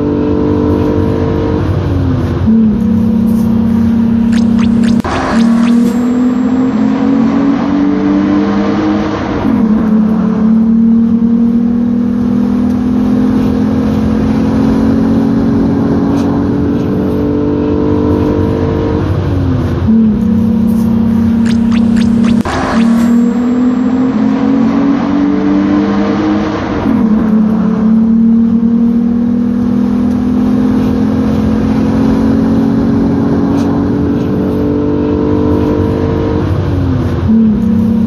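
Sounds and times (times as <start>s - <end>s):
car engine accelerating in a tunnel: 0.0s - 38.0s.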